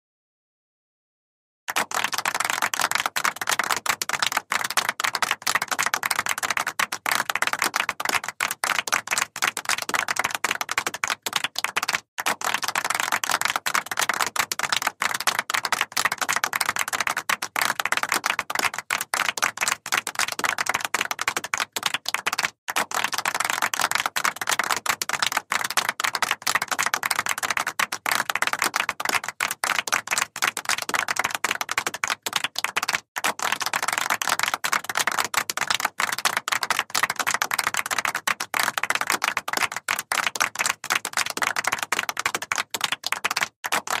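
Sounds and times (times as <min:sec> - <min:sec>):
crowd applauding: 0:01.7 - 0:44.0.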